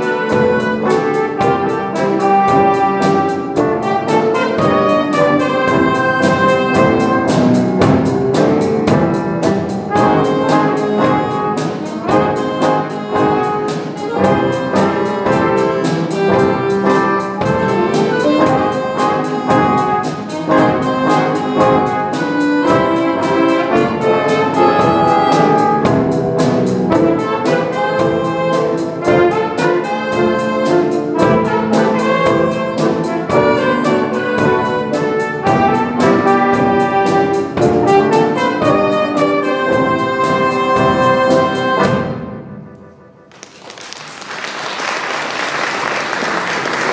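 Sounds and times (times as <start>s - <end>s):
brass band playing jazz: 0.0s - 43.3s, 44.6s - 46.9s.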